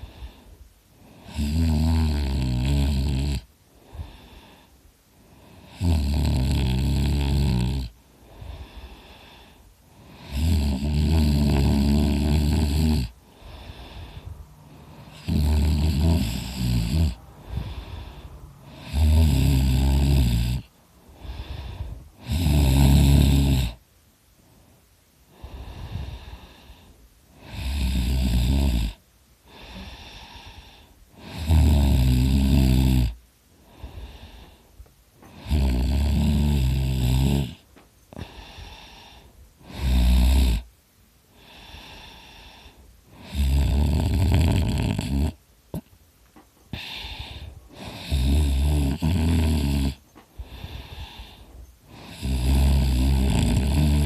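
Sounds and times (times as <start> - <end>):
quiet breathing: 0.0 - 54.0
person snoring loudly: 1.0 - 4.7, 5.4 - 23.8, 25.3 - 34.6, 35.2 - 37.6, 38.2 - 40.7, 41.4 - 45.9, 46.7 - 54.0.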